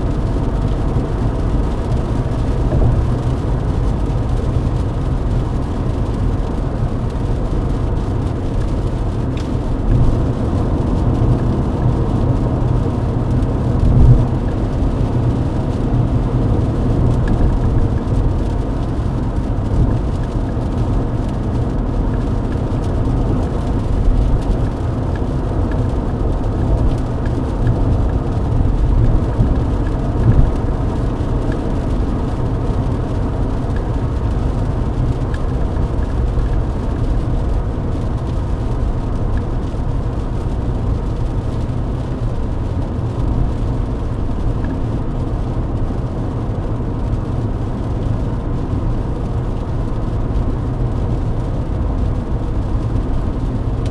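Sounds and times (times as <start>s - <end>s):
car engine drone: 0.0s - 53.9s
road rumble and tyre noise: 0.0s - 53.9s.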